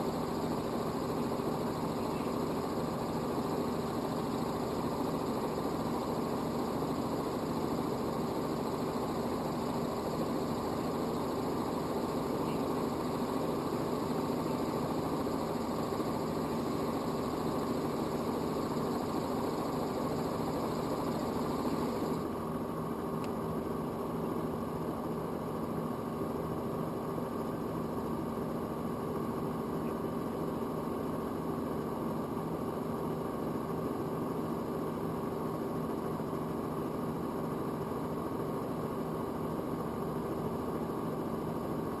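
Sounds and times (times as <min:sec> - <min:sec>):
helicopter engine and rotor drone: 0:00.0 - 0:42.0.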